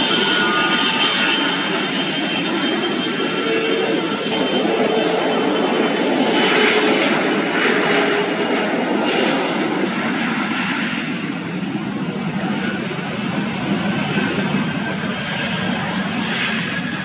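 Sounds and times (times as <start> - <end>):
airliner engines passing: 0.0 - 17.0.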